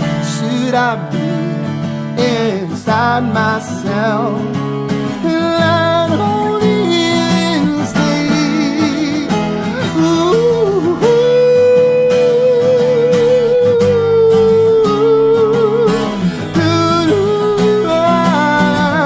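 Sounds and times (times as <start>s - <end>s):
guitar background music: 0.0s - 19.0s.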